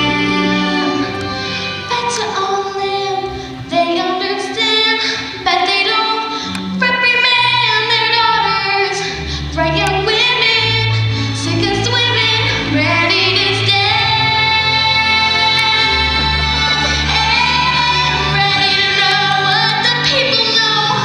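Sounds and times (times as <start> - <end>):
instrumental accompaniment: 0.0 - 21.0.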